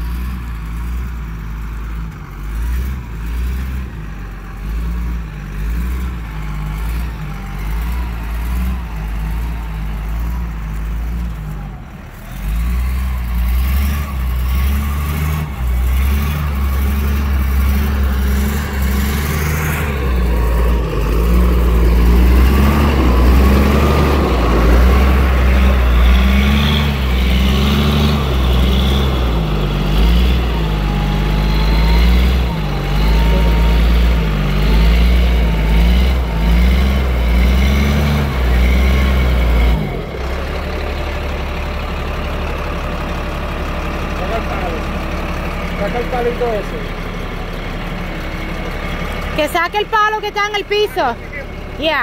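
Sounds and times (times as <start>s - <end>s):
truck engine running under load: 0.0s - 52.0s.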